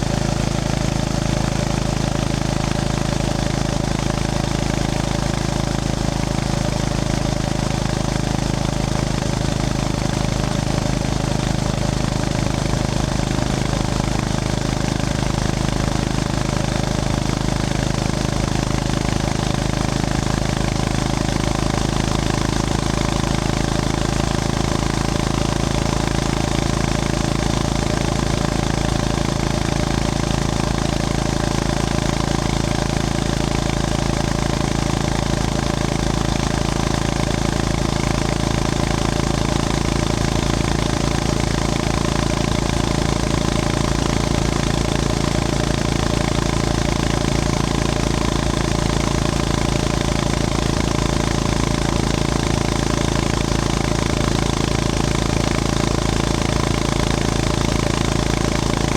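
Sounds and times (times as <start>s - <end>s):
motorcycle engine running steadily: 0.0s - 58.9s.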